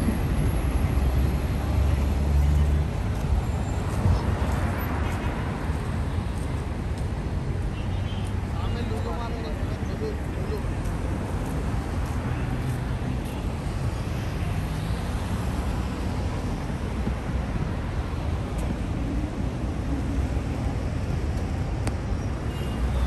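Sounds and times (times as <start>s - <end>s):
vehicle engines and tyres: 0.0s - 23.0s.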